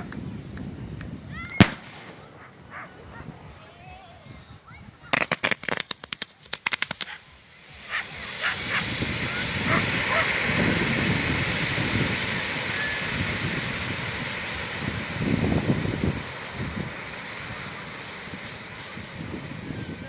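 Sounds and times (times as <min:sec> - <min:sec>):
fireworks bangs: 0:01.3 - 0:04.0, 0:05.0 - 0:20.0
steady rushing noise: 0:01.6 - 0:20.0.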